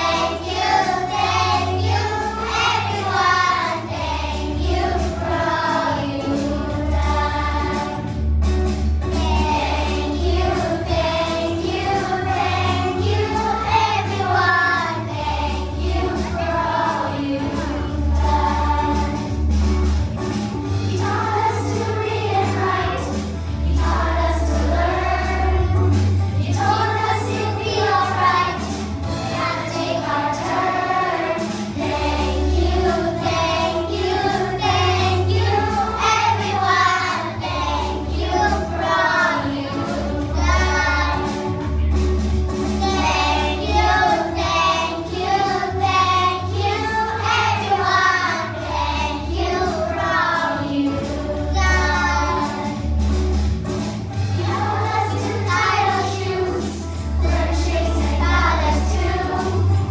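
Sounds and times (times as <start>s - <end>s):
children singing: 0.0s - 8.1s, 9.1s - 19.6s, 20.6s - 41.6s, 42.7s - 53.1s, 54.2s - 59.9s
backing music: 0.0s - 59.9s.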